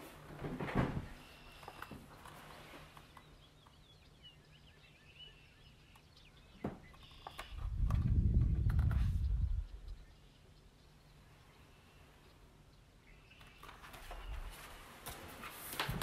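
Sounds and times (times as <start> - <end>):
faint bird chirps: 1.0 - 15.0.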